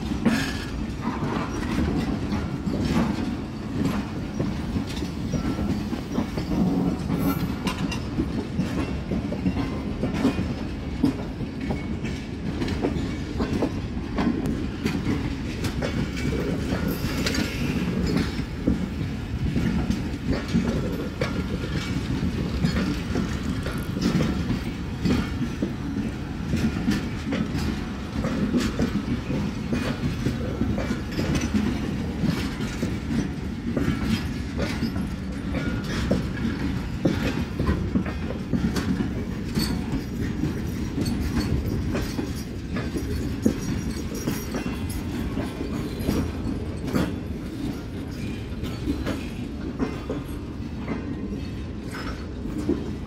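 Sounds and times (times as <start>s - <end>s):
train coaches rumbling past: 0.0s - 53.0s
wheels clicking over rail joints: 0.0s - 53.0s.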